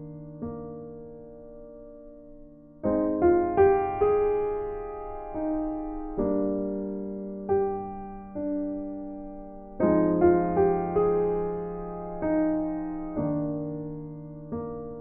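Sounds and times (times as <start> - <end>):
soft piano playing: 0.0 - 15.0.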